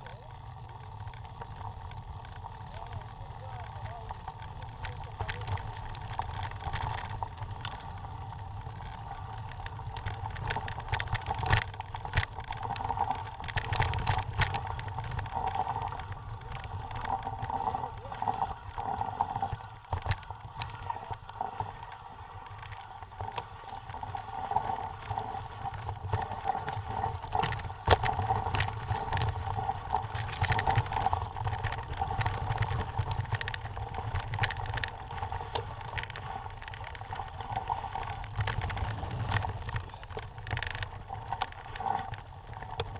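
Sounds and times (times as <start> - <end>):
bike clicking and rattling: 0.0 - 42.9
bike tyres on dirt trail: 0.0 - 42.9.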